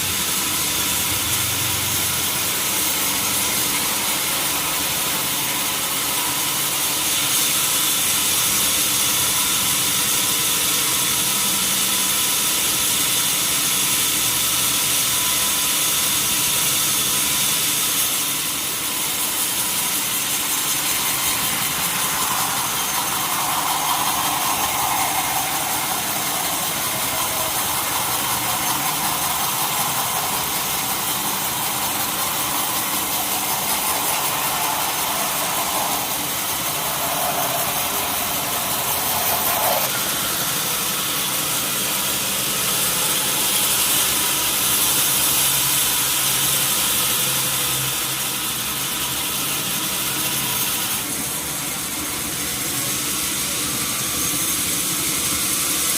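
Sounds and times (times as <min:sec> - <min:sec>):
sawmill saw cutting wood: 0:00.0 - 0:55.9.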